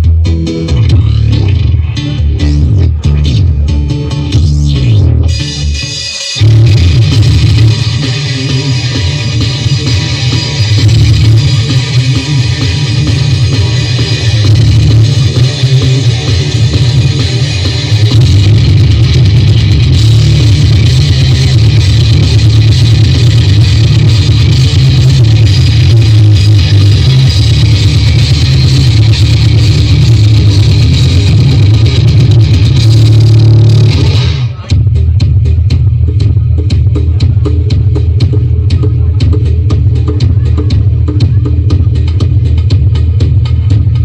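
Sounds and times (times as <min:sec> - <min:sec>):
loud rock music with heavy bass: 0:00.0 - 0:44.0.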